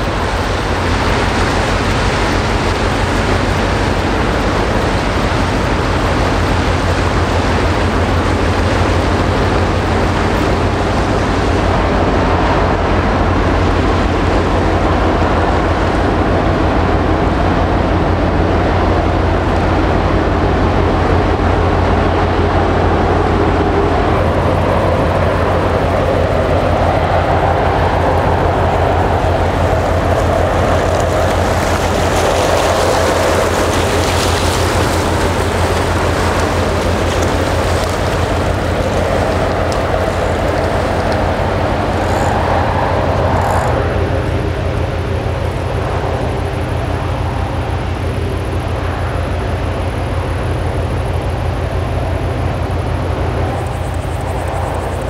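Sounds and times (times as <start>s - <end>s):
rushing noise: 0.0s - 55.0s
ship diesel engine humming: 0.0s - 55.0s.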